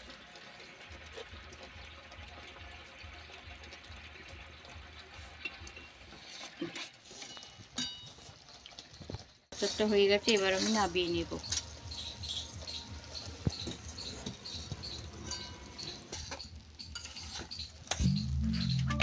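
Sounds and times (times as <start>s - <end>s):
syrup bubbling in a pan: 0.0s - 18.4s.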